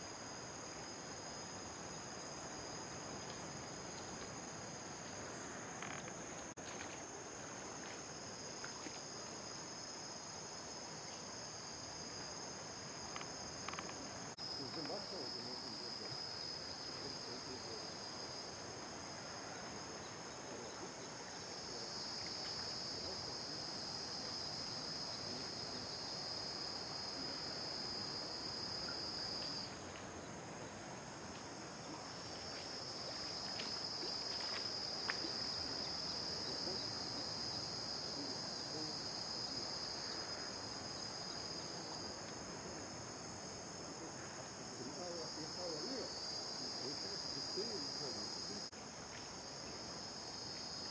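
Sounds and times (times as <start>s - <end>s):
insects trilling: 0.0s - 50.9s
outdoor background hiss: 0.0s - 50.9s.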